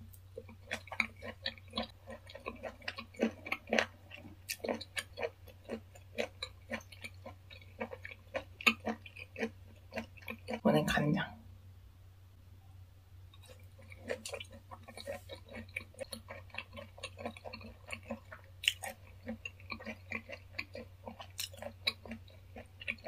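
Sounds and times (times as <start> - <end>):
wet chewing mouth clicks: 0.4 - 10.6, 13.4 - 23.0.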